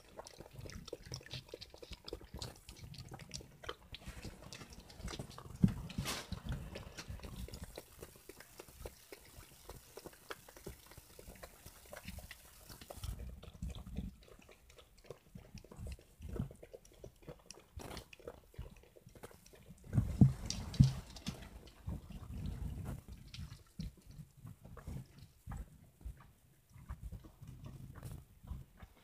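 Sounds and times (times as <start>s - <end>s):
dogs lapping milk: 0.0s - 29.0s.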